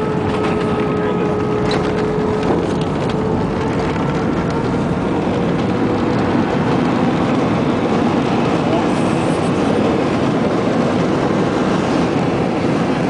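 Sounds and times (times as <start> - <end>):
engines and wheels rumbling: 0.0 - 13.0
steady engine tone: 0.0 - 13.0.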